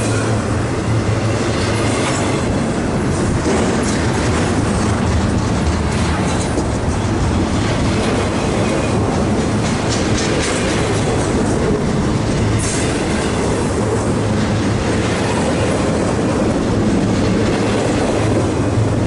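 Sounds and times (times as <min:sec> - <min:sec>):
freight train wheels clattering: 0:00.0 - 0:19.0.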